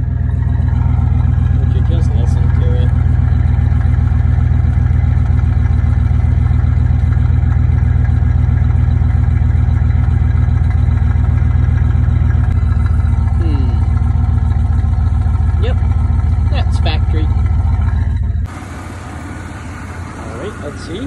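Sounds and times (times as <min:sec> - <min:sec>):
pickup truck engine idling: 0:00.0 - 0:21.0.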